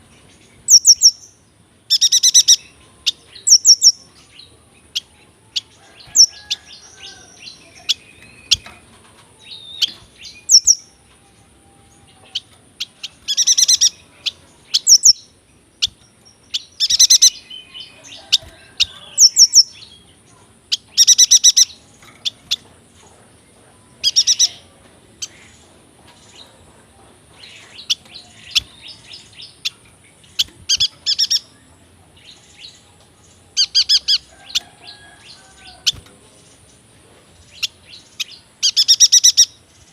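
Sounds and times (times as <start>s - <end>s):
bird chirps: 0.3s - 4.2s, 4.9s - 22.7s, 24.0s - 26.6s, 27.3s - 36.8s, 37.4s - 39.9s.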